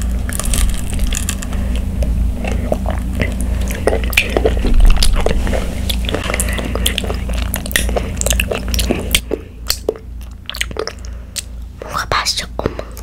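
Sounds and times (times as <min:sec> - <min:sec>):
child chewing: 0:00.0 - 0:13.0.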